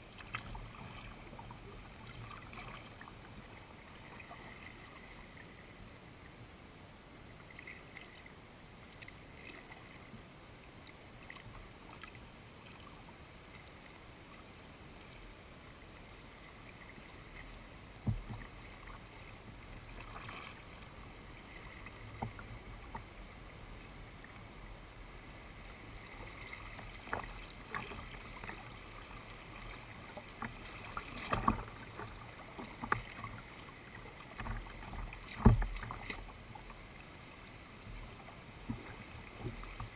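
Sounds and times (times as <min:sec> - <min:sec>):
paddle splashes and drips: 0:00.0 - 0:05.8, 0:07.4 - 0:10.2, 0:10.8 - 0:24.8, 0:25.5 - 0:39.9.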